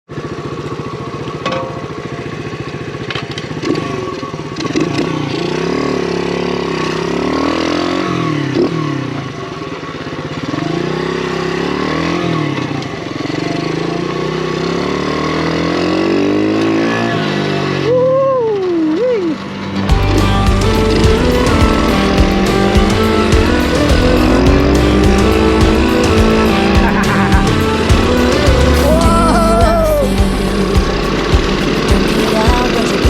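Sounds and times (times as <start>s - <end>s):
small motorcycle engine revving: 0.1s - 33.0s.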